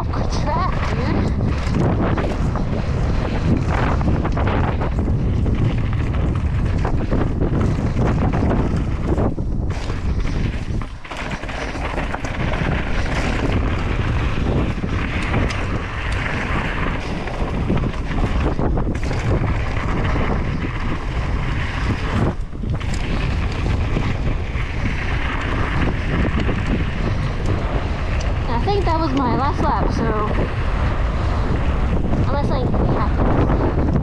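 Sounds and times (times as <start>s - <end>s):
bike knocks and rattles: 0.0s - 34.0s
wind buffeting microphone: 0.0s - 34.0s.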